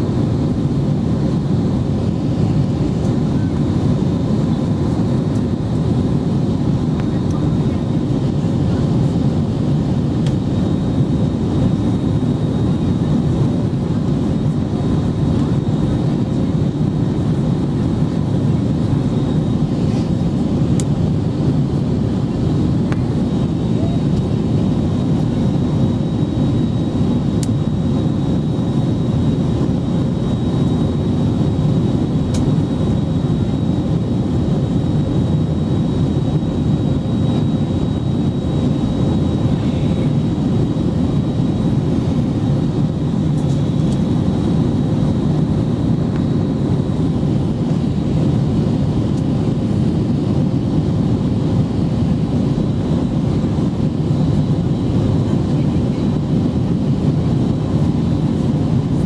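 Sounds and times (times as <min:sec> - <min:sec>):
jet engine and airflow roar: 0:00.0 - 0:59.0.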